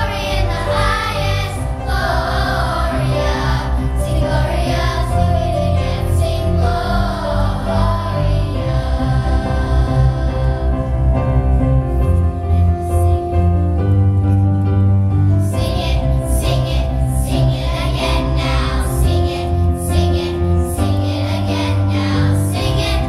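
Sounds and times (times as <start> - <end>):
children's choir singing: 0.0 - 11.6, 12.2 - 13.8, 15.4 - 23.0
instrumental accompaniment with bass: 0.0 - 23.0.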